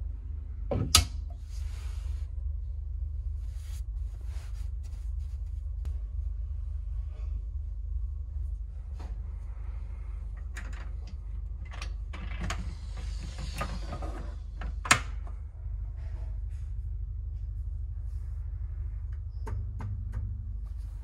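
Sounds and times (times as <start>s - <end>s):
low hum of ship: 0.0s - 21.0s.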